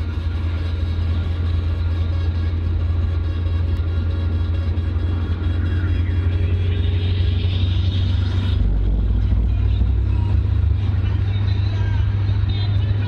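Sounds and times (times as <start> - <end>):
car engine drone inside cabin: 0.0 - 13.0.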